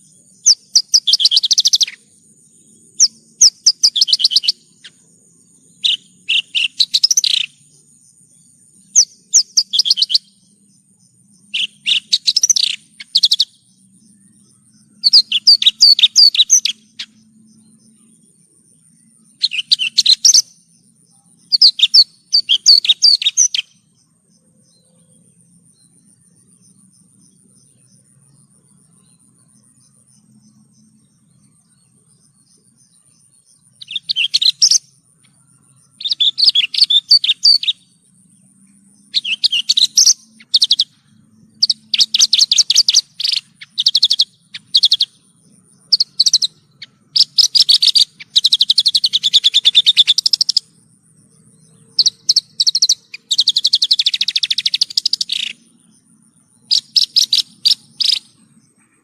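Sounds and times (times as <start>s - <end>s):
lark singing high chirps: 0.0s - 59.0s.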